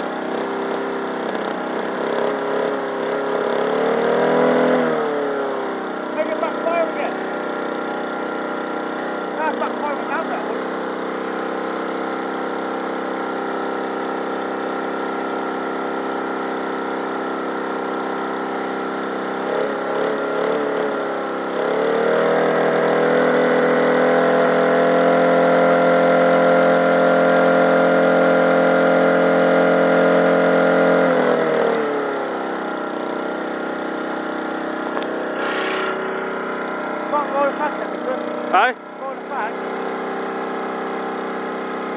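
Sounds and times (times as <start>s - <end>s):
small lawn mower engine revving: 0.0s - 41.9s.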